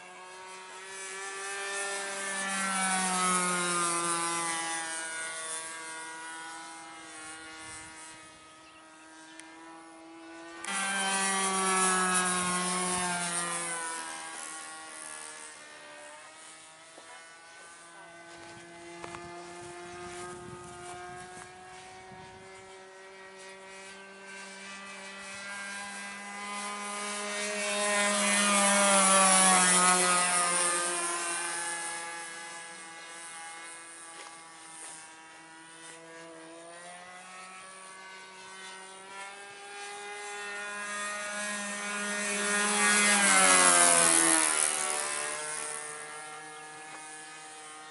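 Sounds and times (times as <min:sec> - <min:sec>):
model airplane engine buzzing: 0:00.0 - 0:47.9.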